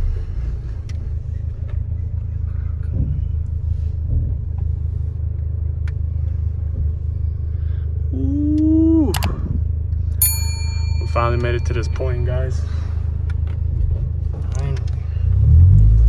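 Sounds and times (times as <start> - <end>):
faint engine ticks: 0.0 - 15.5
engine running low rumble: 0.0 - 16.0.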